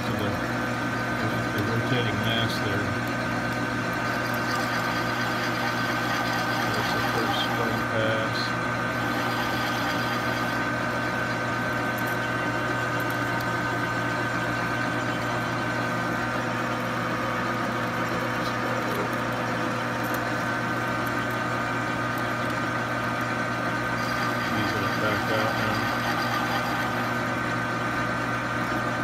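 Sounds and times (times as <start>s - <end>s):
metal lathe humming: 0.0s - 28.6s.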